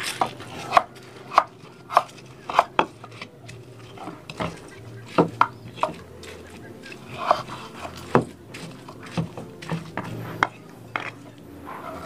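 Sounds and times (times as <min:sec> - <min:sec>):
faint low voices: 0:00.0 - 0:12.0
kitchen utensils knocking: 0:00.0 - 0:12.0.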